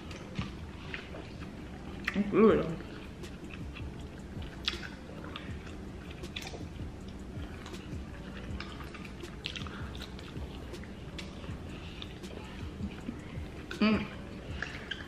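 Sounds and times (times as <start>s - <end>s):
low hum: 0.0s - 15.0s
wet chewing and lip-smacking: 0.0s - 15.0s.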